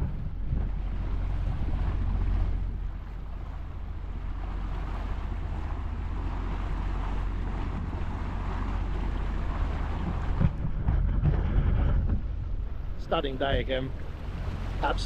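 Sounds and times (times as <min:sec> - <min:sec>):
boat motor rumbling: 0:00.0 - 0:15.0
water rushing along hull: 0:00.0 - 0:15.0
wind buffeting microphone: 0:00.0 - 0:15.0.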